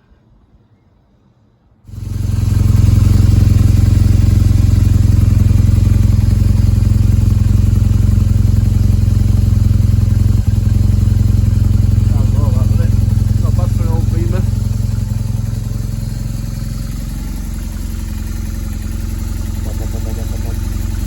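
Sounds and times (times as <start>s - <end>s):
motorcycle engine running steadily: 1.9s - 21.0s.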